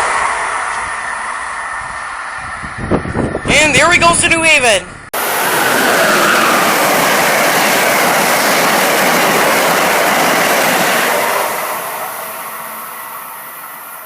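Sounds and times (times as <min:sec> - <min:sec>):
train passing at speed: 0:00.0 - 0:03.8, 0:05.0 - 0:14.0.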